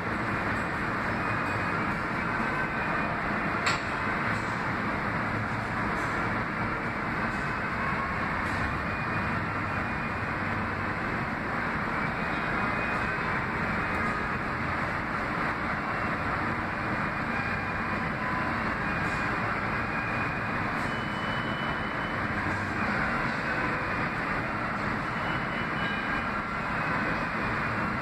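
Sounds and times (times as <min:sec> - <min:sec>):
subway train rumble: 0:00.0 - 0:28.0.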